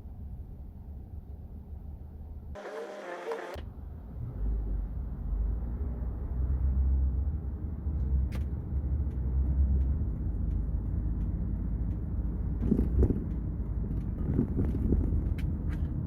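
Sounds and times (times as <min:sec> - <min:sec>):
car cabin road rumble: 0:02.6 - 0:16.0.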